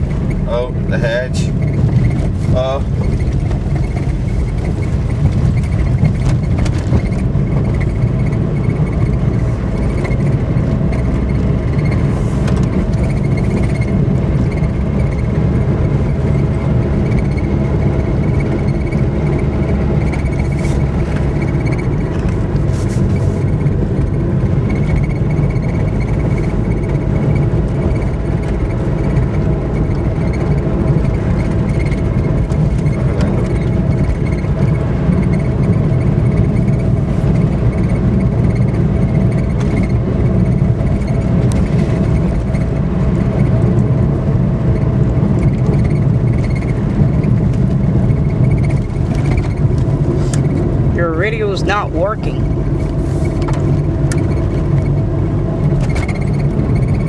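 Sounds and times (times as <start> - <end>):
car engine from inside cabin: 0.0 - 57.0
road rumble: 0.0 - 57.0.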